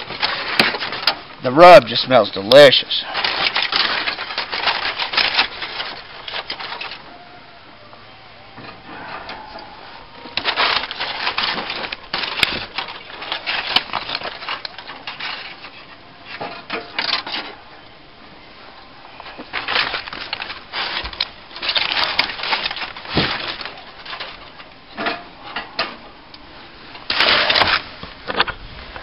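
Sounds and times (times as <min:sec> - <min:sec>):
aluminium foil crinkling: 0:00.0 - 0:07.4, 0:08.9 - 0:17.8, 0:18.6 - 0:25.0, 0:26.9 - 0:29.0.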